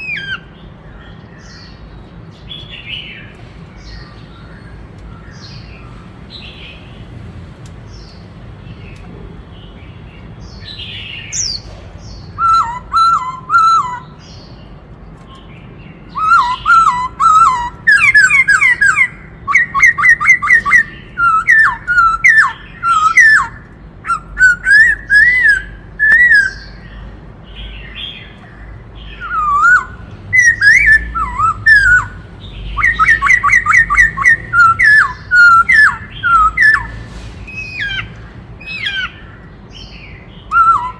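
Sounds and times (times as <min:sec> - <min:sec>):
bird whistling song: 0:00.0 - 0:06.8, 0:10.4 - 0:14.7, 0:15.3 - 0:40.9.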